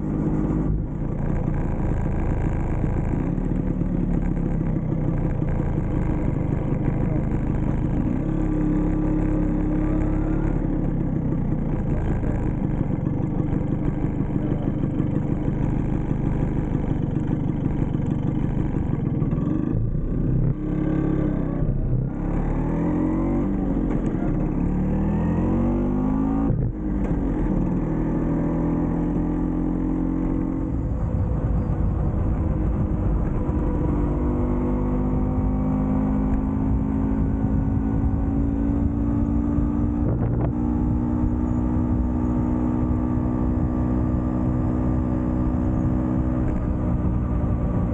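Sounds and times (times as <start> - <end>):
scooter engine running: 0.0 - 47.9.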